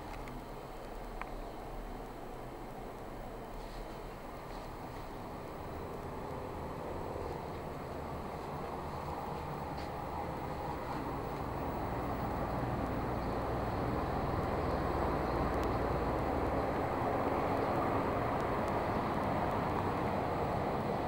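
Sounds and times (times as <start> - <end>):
city mechanical hum and rumble: 0.0 - 21.0.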